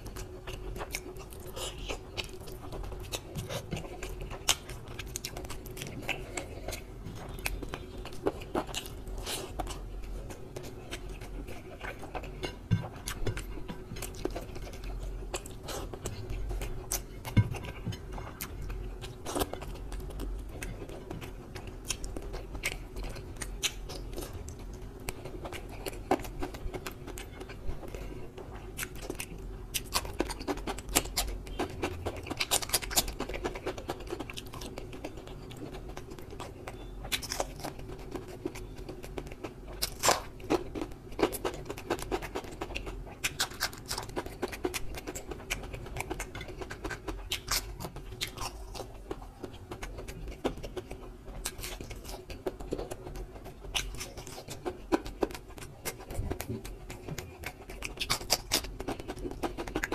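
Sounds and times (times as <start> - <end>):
faint hum: 0.0 - 59.9
wet chewing and lip smacks: 0.0 - 59.9.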